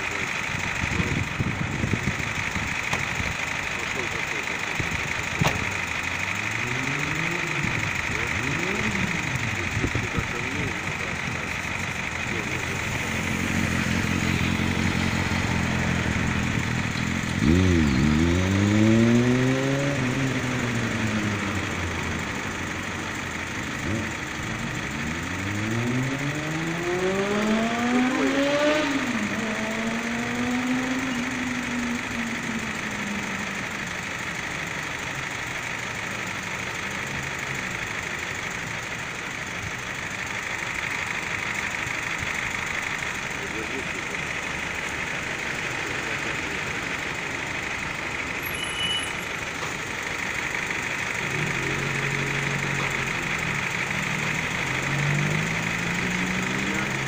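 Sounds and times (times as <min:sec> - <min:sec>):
vehicle engine climbing in pitch: 0:00.0 - 0:57.0.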